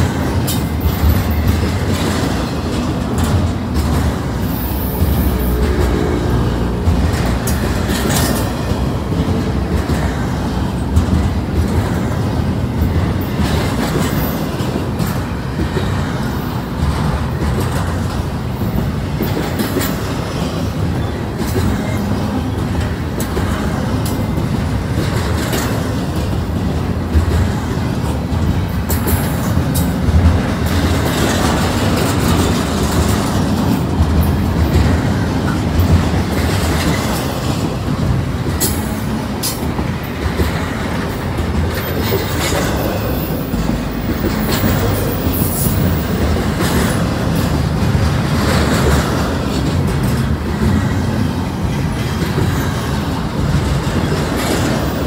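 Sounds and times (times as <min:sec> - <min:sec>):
train wheels rumbling on rail: 0:00.0 - 0:55.0
wheels clanking over track: 0:00.0 - 0:55.0.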